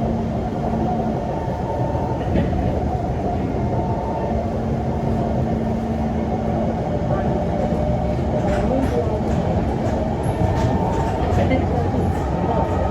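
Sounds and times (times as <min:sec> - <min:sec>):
train rumbling inside car: 0:00.0 - 0:12.9.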